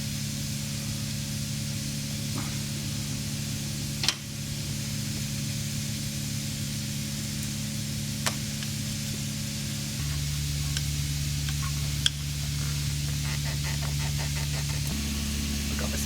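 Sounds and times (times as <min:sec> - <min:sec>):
low hum: 0:00.0 - 0:16.0
steady hiss: 0:00.0 - 0:16.0.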